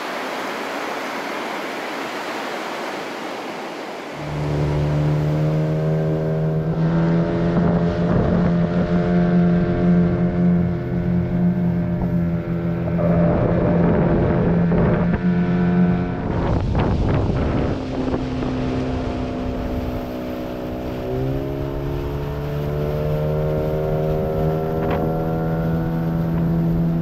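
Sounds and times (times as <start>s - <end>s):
water noise: 0.0s - 27.0s
wind: 0.0s - 27.0s
outboard motor running: 4.2s - 27.0s.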